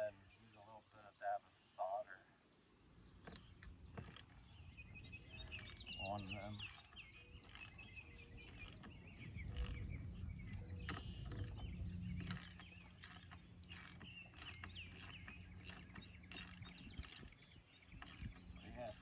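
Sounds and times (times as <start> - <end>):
birds chirping: 0.0 - 19.0
low steady hum: 0.0 - 19.0.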